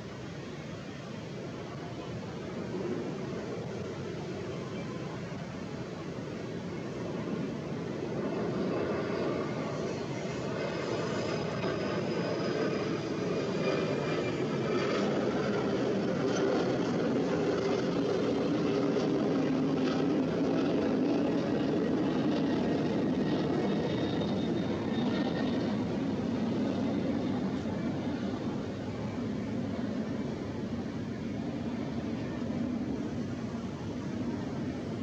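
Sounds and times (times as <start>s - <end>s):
faint high whine: 0.0s - 35.0s
jet engines roaring: 2.0s - 35.0s.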